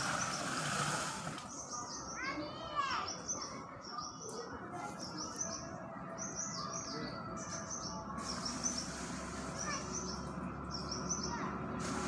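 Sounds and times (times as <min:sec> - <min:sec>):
bird chirping: 0:01.5 - 0:11.5.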